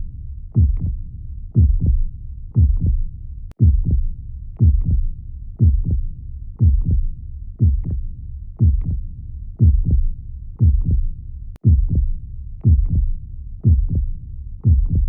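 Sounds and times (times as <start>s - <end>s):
heartbeat thuds: 0.6s - 1.0s, 1.6s - 6.0s, 6.6s - 8.0s, 8.6s - 9.0s, 9.6s - 15.0s.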